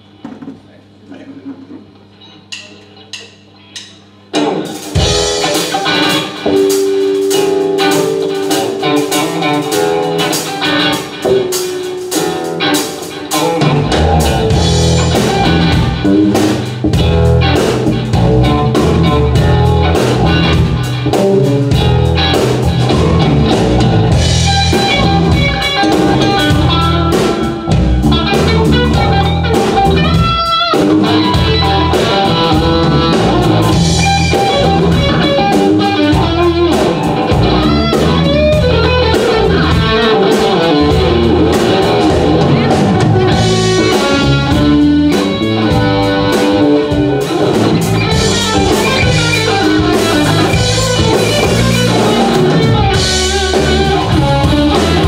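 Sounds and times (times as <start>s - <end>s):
bass guitar: 1.8s - 55.0s
electric guitar single notes: 2.2s - 55.0s
drum kit: 2.4s - 55.0s.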